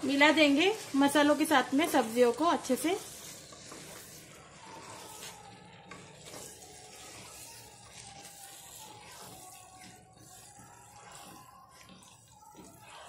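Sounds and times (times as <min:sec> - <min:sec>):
food sizzling faintly in pot: 0:00.0 - 0:13.0
wooden spatula scraping pan: 0:00.0 - 0:13.0.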